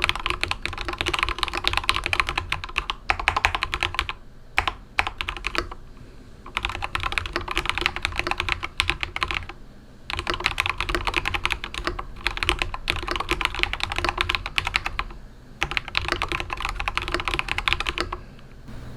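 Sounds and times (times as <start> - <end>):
mechanical keyboard typing: 0.0 - 5.8, 6.5 - 18.2.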